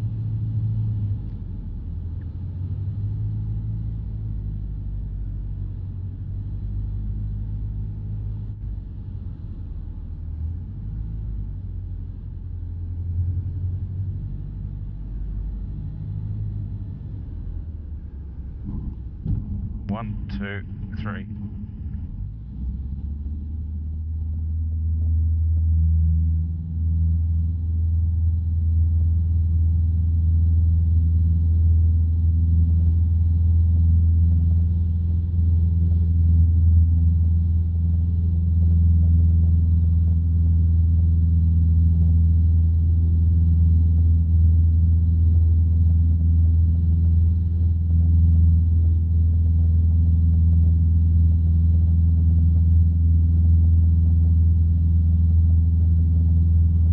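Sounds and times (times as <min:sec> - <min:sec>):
light aircraft engine droning: 0:00.0 - 0:56.9.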